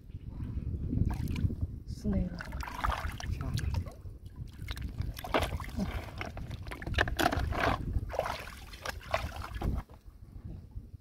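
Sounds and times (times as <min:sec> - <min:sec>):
shallow water sloshing and splashing: 0:01.0 - 0:10.0.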